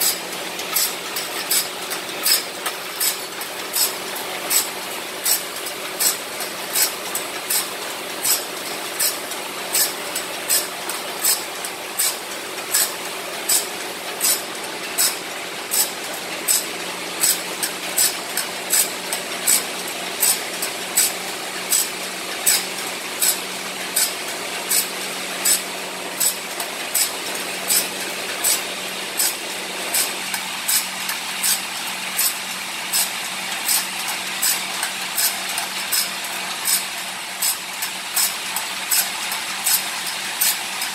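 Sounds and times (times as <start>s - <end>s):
grinding wheel rasping: 0.0s - 40.9s.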